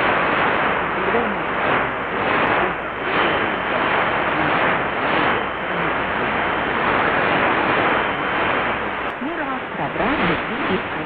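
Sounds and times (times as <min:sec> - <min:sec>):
radio static and hiss: 0:00.0 - 0:11.0.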